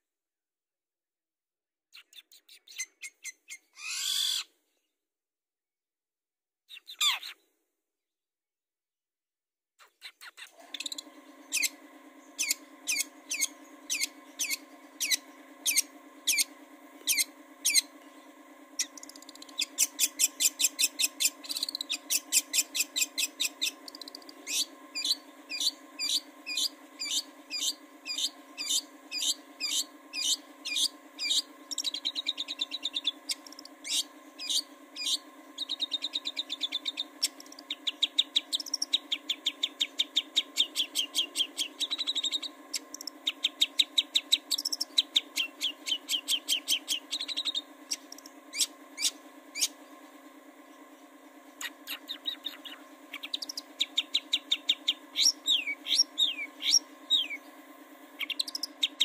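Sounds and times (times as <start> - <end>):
faint steady hum: 10.6 - 59.0.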